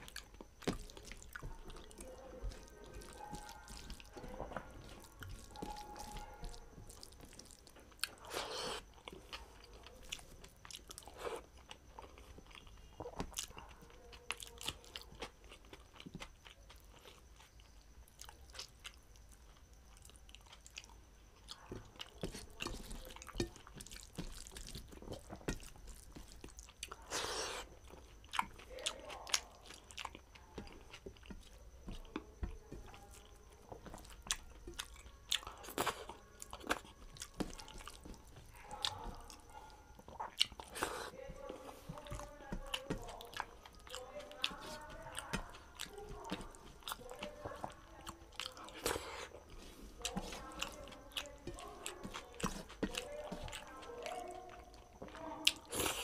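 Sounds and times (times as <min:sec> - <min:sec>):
close chewing and wet mouth sounds: 0:00.0 - 0:56.0.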